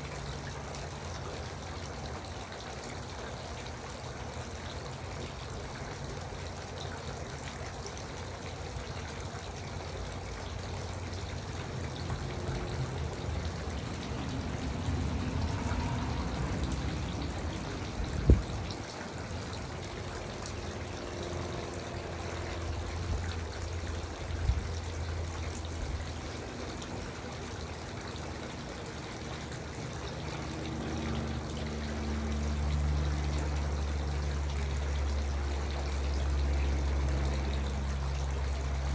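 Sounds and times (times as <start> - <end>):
garden fountain running: 0.0 - 38.9.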